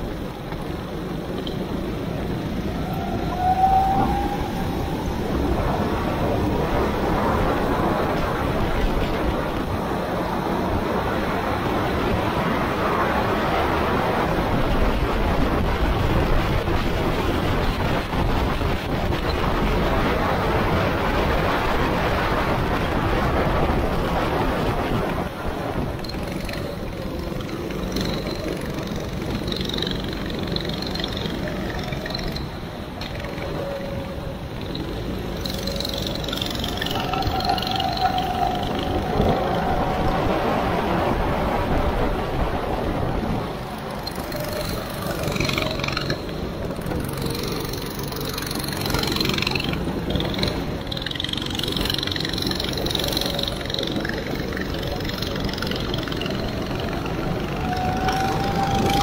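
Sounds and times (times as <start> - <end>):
go-kart engine: 0.0 - 59.0
wind noise: 0.0 - 59.0.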